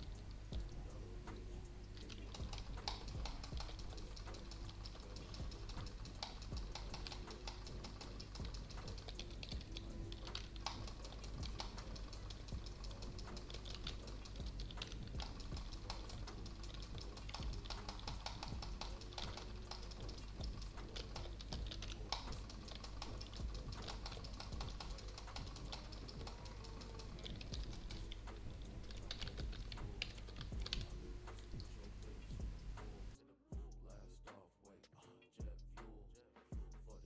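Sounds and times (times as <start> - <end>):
fast keyboard typing: 1.9 - 31.8.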